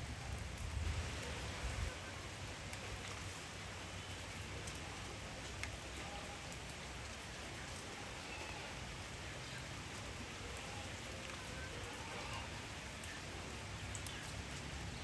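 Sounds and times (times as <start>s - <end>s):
sharp water drips: 0.0s - 15.0s
steady rain falling: 0.0s - 15.0s.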